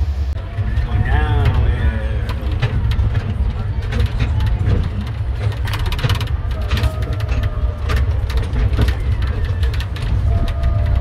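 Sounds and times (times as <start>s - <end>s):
land train rumbling: 0.0s - 11.0s
carriage rattling and clicking: 0.6s - 11.0s.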